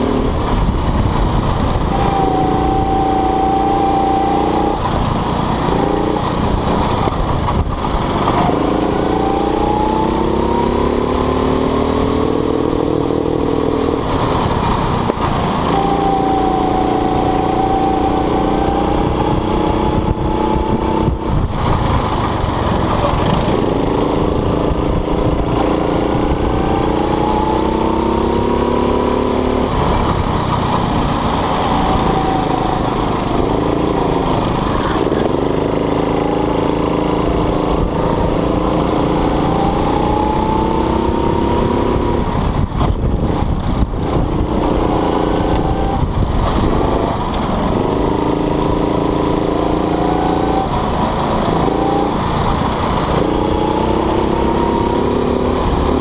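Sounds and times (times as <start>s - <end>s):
go-kart engine racing: 0.0s - 56.0s.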